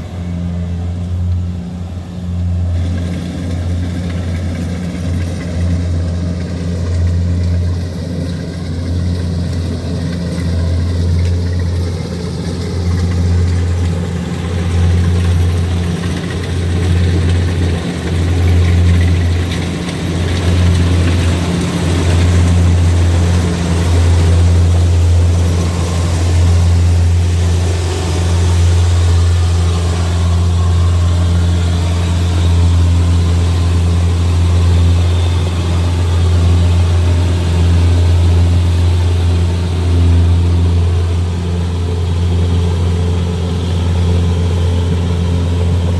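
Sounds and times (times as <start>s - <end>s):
combine harvester engine hum: 0.0s - 45.9s.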